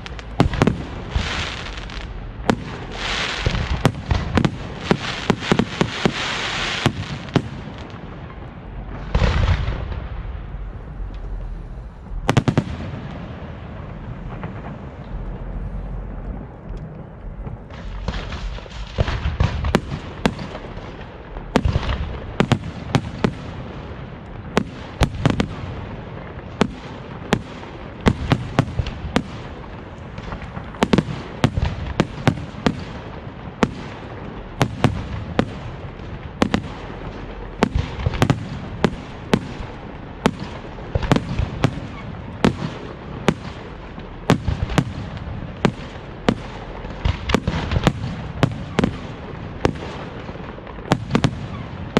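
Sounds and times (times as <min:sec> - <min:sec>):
rumble and crackle: 0:00.0 - 0:51.9.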